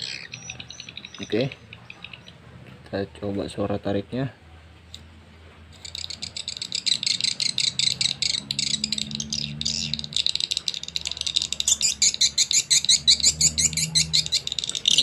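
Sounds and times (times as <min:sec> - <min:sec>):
recorded bird chirps from speakers: 0:00.0 - 0:05.0, 0:05.7 - 0:15.0.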